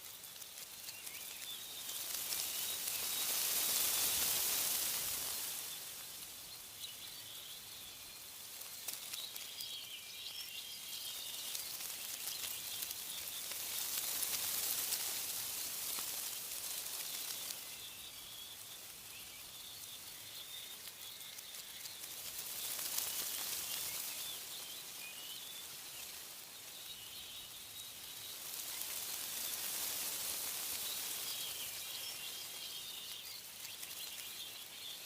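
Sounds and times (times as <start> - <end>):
faint bird chirps: 0.0 - 35.0
wind rustling tree leaves: 0.0 - 35.0.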